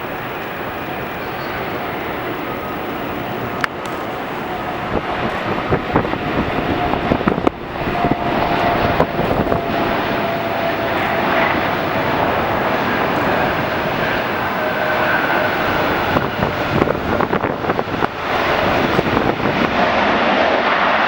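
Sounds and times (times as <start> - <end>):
jet engine whine: 0.0 - 21.0
jet engines roaring: 0.0 - 21.0.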